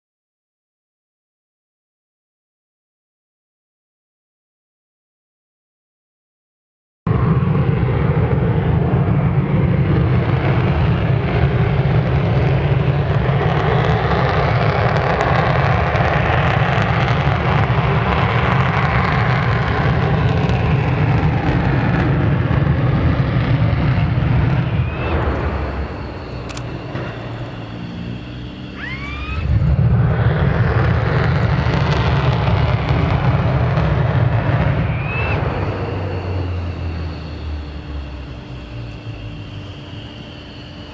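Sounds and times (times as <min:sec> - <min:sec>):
jet engines roaring: 0:07.1 - 0:40.9
short rising whines: 0:07.1 - 0:40.9.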